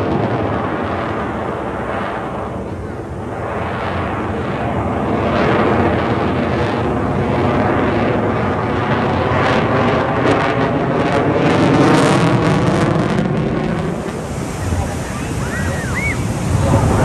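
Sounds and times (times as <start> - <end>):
airplane flying over: 0.0 - 17.0.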